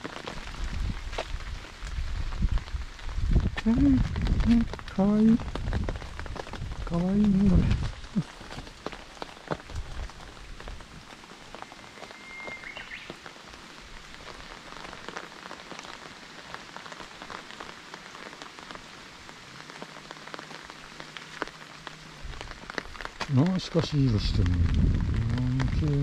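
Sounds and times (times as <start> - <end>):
sharp raindrop ticks: 0.0 - 26.0
steady rain falling: 0.0 - 26.0.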